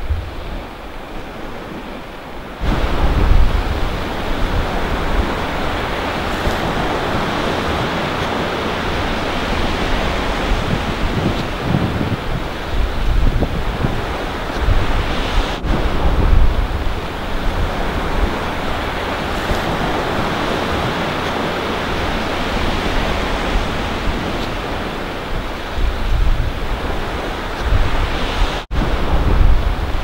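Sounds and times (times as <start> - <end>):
surf breaking on beach: 0.0 - 30.0
wind buffeting microphone: 0.0 - 30.0.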